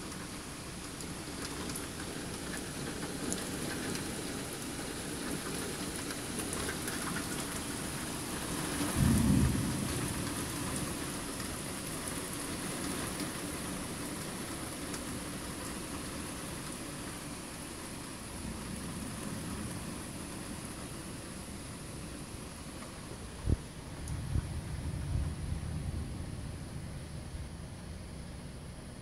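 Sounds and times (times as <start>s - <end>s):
steady rain: 0.0s - 29.0s
low rumble of thunder: 1.4s - 16.3s, 18.2s - 29.0s.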